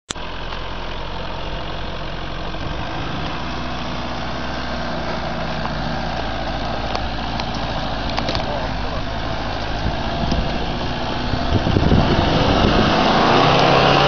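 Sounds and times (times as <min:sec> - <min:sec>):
pickup engine idling: 0:00.1 - 0:13.2.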